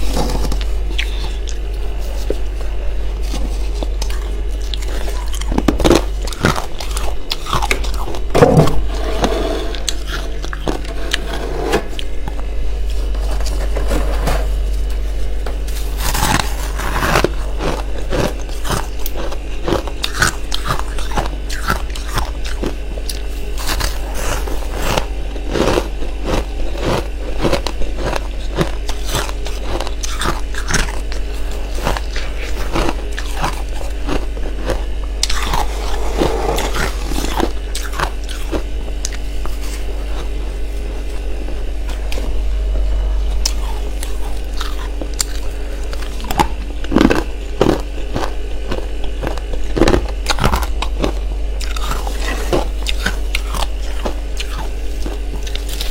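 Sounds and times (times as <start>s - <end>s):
crunching frost being chewed: 0.0s - 55.9s
steady low hum: 0.0s - 55.9s.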